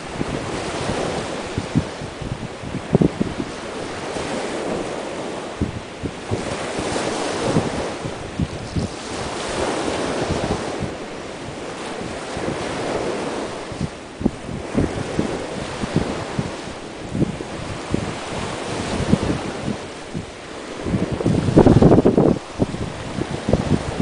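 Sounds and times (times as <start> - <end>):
small waves breaking on sandy shore: 0.0 - 24.0
wind buffeting microphone: 0.0 - 24.0.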